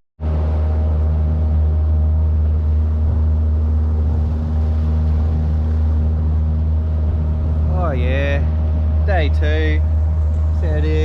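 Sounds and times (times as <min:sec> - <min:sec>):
engine droning: 0:00.2 - 0:11.0.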